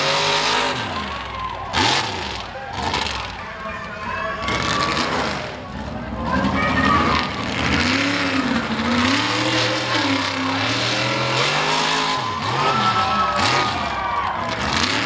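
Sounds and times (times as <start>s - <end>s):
truck engine revving hard: 0.0s - 15.0s.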